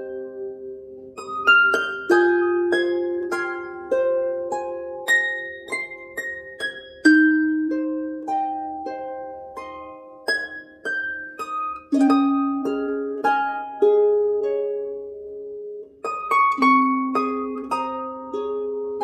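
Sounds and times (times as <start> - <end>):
plucked string melody: 0.0 - 19.0.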